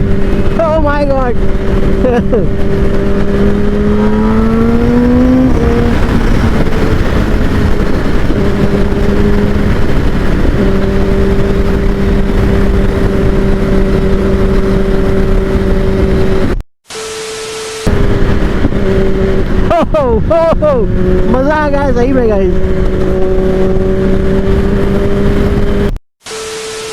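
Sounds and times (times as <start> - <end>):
wind noise: 0.0 - 16.6, 17.8 - 26.0
motorcycle engine accelerating: 0.0 - 26.9.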